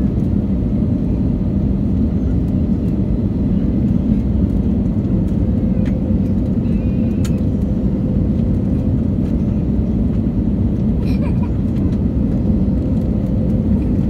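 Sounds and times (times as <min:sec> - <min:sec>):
airplane engine rumble: 0:00.0 - 0:14.0.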